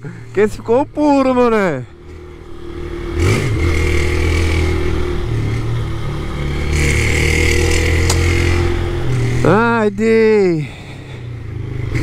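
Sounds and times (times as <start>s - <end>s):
moped engine revving: 0.0s - 12.0s.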